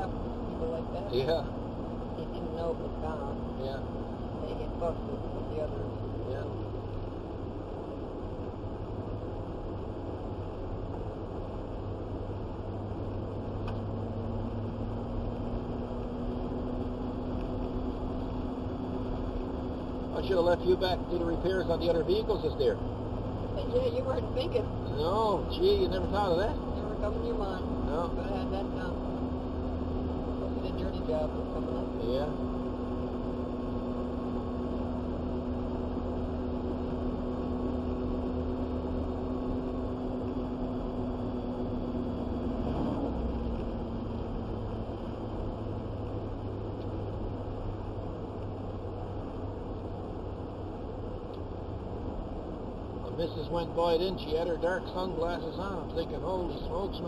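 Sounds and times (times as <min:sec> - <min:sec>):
engine and road noise: 0:00.0 - 0:57.0.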